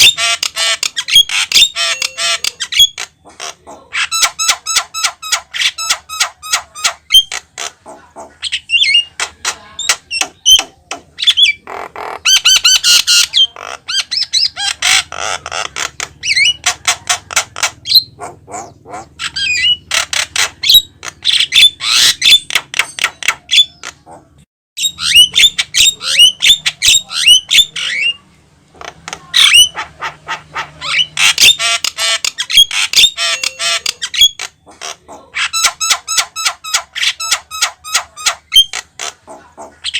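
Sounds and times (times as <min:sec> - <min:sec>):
bird chattering and whistling: 0:00.0 - 0:28.2, 0:28.8 - 0:39.9.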